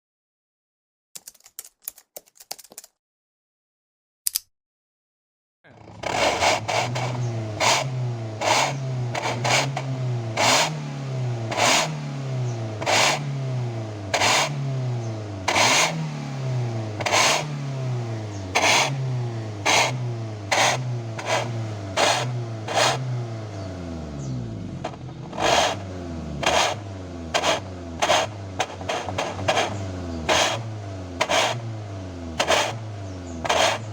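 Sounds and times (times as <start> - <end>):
car engine revving: 5.7 - 33.9.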